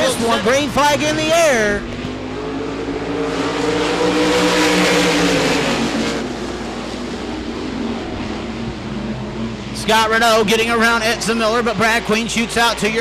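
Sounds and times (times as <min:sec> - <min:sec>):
race car engines accelerating: 0:00.0 - 0:13.0.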